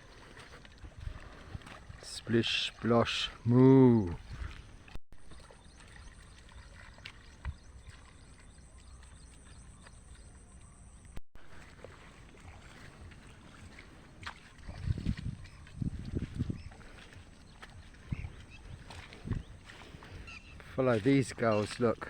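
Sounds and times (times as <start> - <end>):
water sloshing: 0.0 - 22.0.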